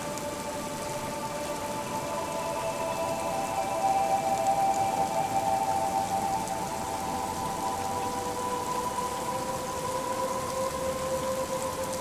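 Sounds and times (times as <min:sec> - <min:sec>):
gentle rain falling: 0:00.0 - 0:12.0
soft ambient music: 0:00.0 - 0:12.0.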